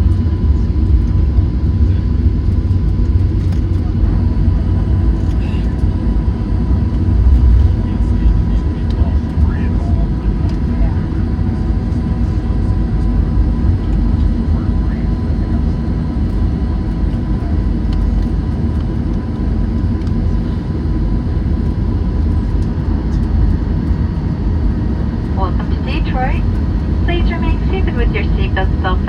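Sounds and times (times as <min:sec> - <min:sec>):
aircraft engines and wheels rumbling: 0:00.0 - 0:29.0
faint steady whine: 0:01.8 - 0:24.0, 0:25.0 - 0:29.0.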